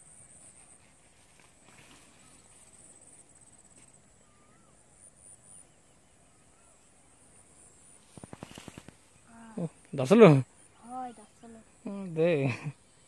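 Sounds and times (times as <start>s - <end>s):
faint rural outdoor ambience: 0.0s - 13.0s.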